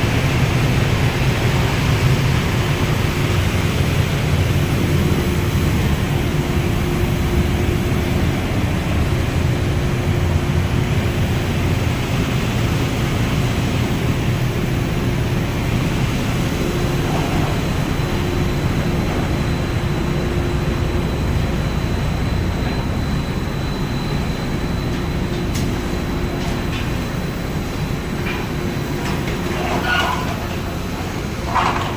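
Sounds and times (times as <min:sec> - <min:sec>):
industrial machinery running: 0:00.0 - 0:31.9.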